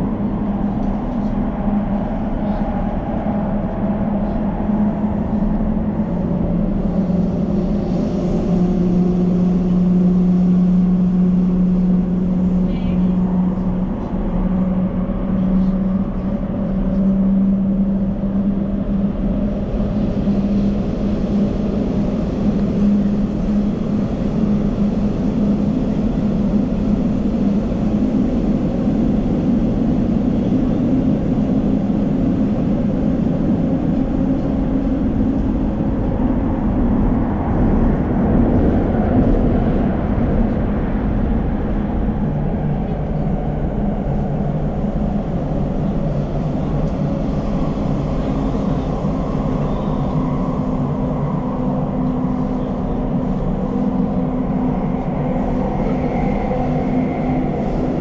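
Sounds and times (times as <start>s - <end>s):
low hum: 0.0s - 58.0s
train wheels rumbling on rail: 0.0s - 58.0s.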